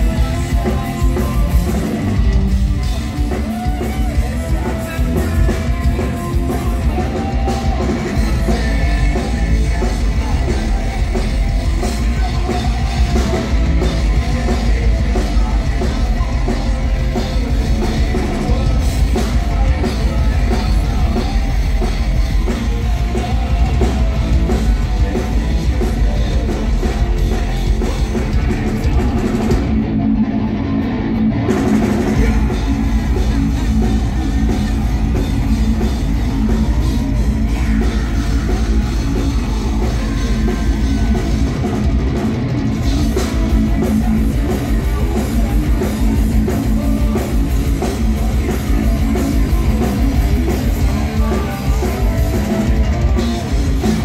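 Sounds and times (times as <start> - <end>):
person singing: 0.0 - 29.8, 31.6 - 42.2, 42.8 - 54.0
bass guitar: 0.0 - 54.0
drum kit: 0.0 - 54.0
electric guitar: 0.0 - 54.0.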